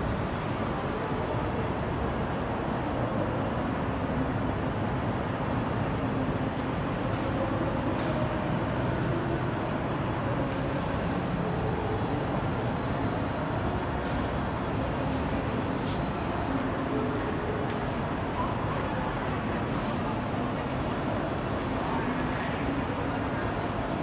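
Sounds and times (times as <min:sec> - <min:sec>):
city traffic: 0:00.0 - 0:24.0.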